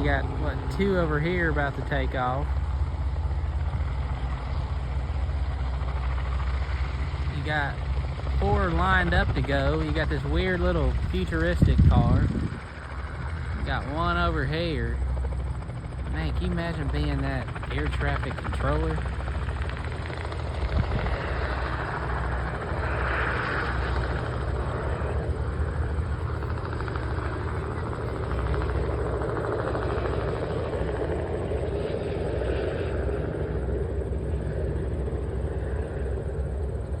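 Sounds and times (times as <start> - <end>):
helicopter running: 0.0 - 37.0.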